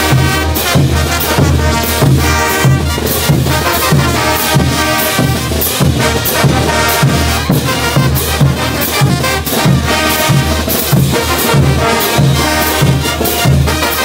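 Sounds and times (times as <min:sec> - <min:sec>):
bass drum beats: 0:00.0 - 0:14.0
brass band playing: 0:00.0 - 0:14.0
cymbals crashing: 0:00.0 - 0:14.0.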